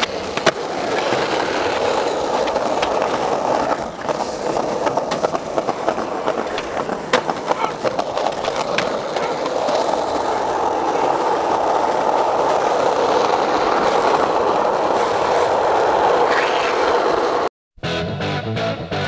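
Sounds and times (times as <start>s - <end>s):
skateboard wheels rolling on pavement: 0.0s - 17.5s.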